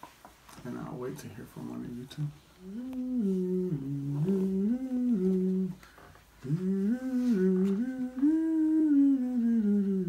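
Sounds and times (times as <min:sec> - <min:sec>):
person humming: 0:01.6 - 0:10.0.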